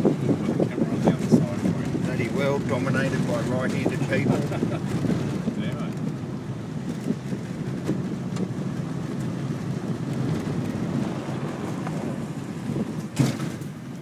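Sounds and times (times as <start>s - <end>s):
engine and tyres rumbling: 0.0s - 14.0s.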